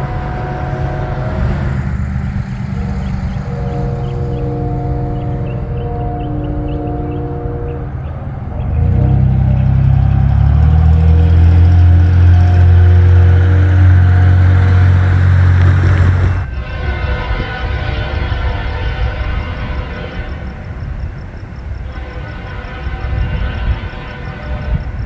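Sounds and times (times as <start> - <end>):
heavy low rumble of train: 0.0 - 25.0
steady chord of many tones: 0.0 - 25.0
train horn chord: 0.0 - 25.0.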